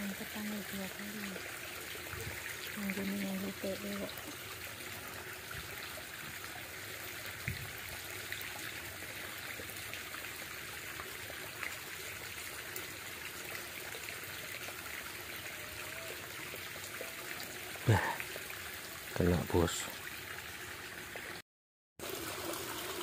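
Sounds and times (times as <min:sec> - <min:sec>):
stream trickling: 0:00.0 - 0:21.4, 0:22.0 - 0:23.0.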